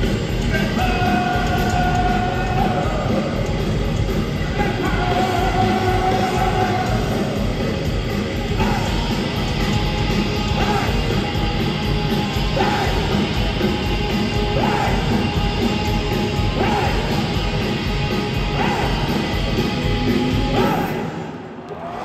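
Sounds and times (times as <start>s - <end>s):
heavy rock band playing live: 0.0s - 21.5s.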